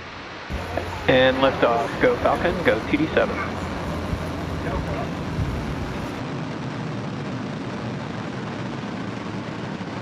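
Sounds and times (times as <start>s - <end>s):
rocket engines roaring: 0.1s - 10.0s.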